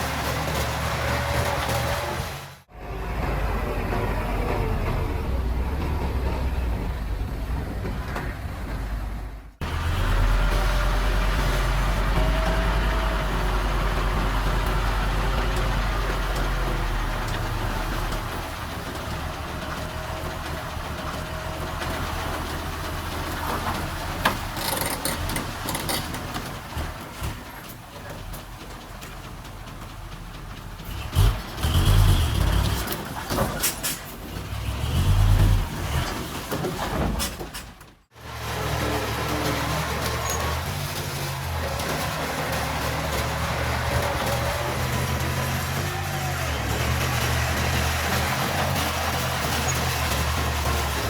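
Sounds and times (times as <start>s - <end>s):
diesel engine running: 0.0s - 33.2s, 38.0s - 51.0s.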